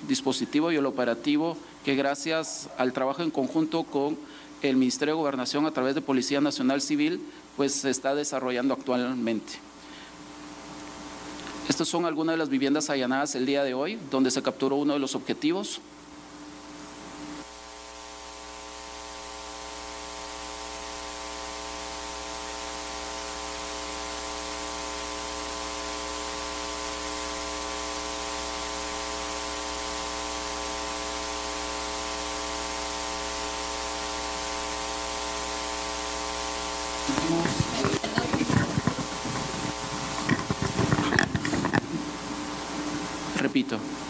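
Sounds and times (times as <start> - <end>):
electronic hiss: 0.0 - 44.0
electrical hum and buzz: 8.5 - 44.0.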